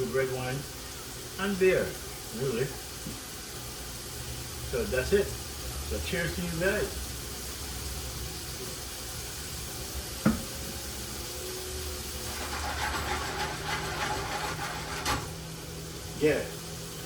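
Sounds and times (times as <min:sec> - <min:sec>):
potatoes sizzling in a pot: 0:00.0 - 0:17.0.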